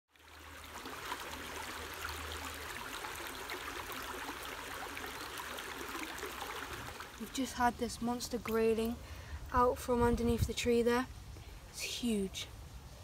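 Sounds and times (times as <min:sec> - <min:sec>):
brook babbling over stones: 0:00.1 - 0:12.4.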